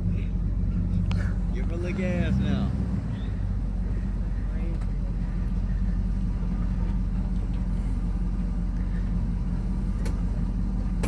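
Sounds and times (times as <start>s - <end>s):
truck engine running at low speed: 0.0s - 11.0s.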